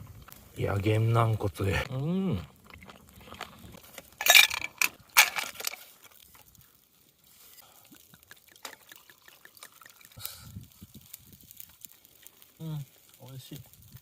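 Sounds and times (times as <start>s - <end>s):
crunching while chewing: 1.8s - 5.2s, 5.8s - 14.0s.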